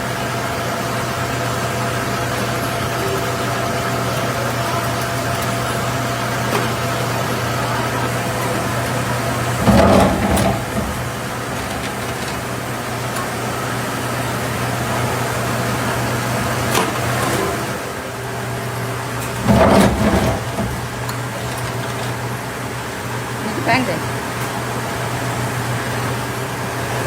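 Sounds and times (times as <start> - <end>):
factory machinery hum: 0.0 - 27.0.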